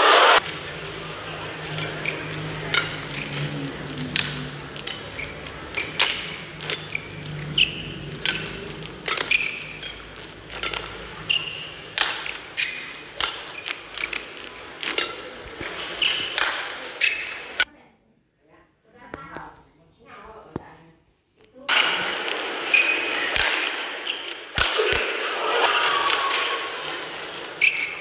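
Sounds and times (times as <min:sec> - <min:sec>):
rackets striking shuttlecock: 0:00.4 - 0:17.7, 0:21.7 - 0:28.0
shoes squeaking on court: 0:00.4 - 0:17.7, 0:21.7 - 0:28.0.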